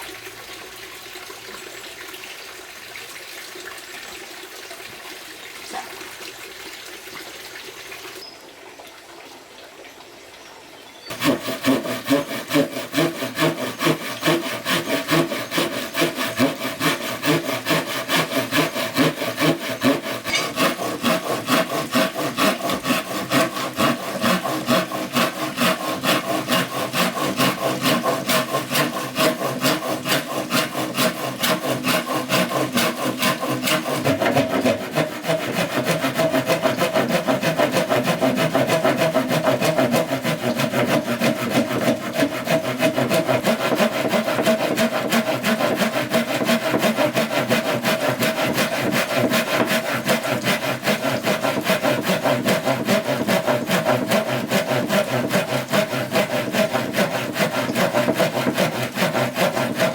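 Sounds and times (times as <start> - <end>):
hand saw cutting bamboo: 11.1 - 59.9.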